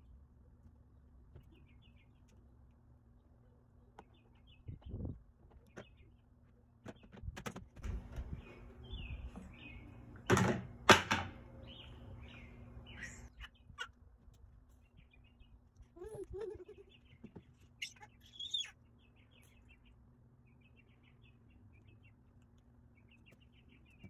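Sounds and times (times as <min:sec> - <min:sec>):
small birds chirping: 0:00.4 - 0:10.3, 0:11.4 - 0:24.0.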